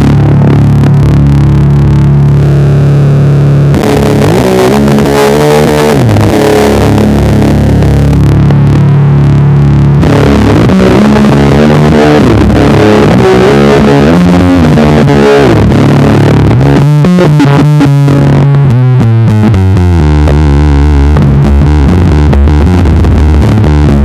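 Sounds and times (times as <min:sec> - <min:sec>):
distorted electric bass riff: 0:00.0 - 0:24.0.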